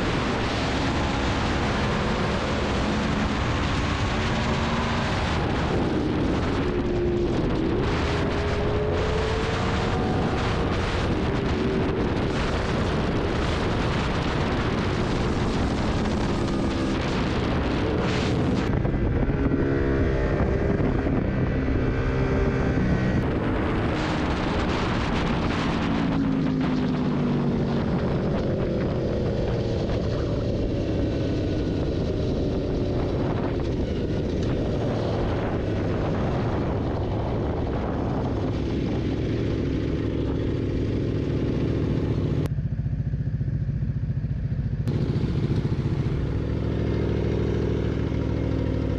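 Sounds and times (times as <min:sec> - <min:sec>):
motorcycle engine revving: 0:00.0 - 0:48.9
wind rushing over microphone: 0:00.0 - 0:48.9.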